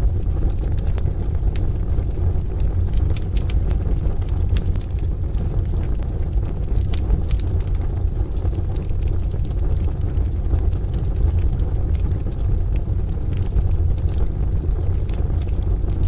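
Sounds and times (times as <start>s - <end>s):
deep continuous rumble: 0.0s - 16.0s
steady rain: 0.0s - 16.0s
wood fire crackling: 0.0s - 16.0s.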